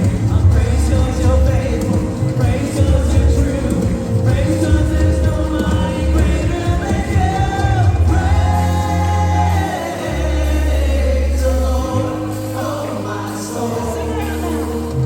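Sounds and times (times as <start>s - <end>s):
band playing: 0.0s - 15.0s
choir singing: 0.0s - 15.0s
deep bass notes: 0.0s - 15.0s.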